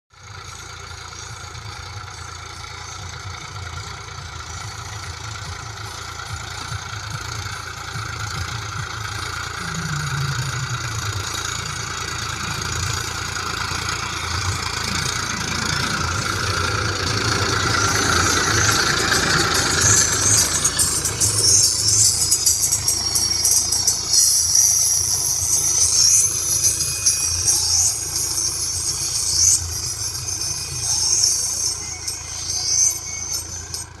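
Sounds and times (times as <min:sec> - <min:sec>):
tractor diesel engine running: 0:00.1 - 0:34.0.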